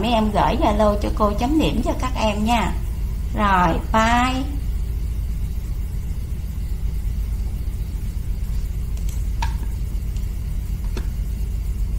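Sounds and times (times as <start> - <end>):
low background hum: 0.0 - 11.9.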